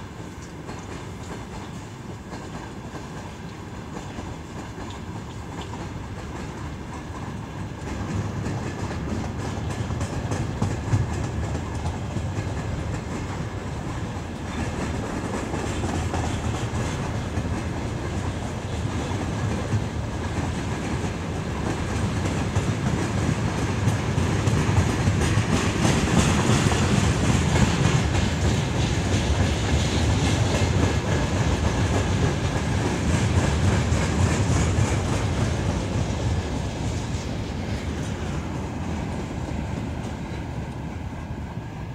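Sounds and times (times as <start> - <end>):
train wheels clattering on rails: 0.0 - 41.9.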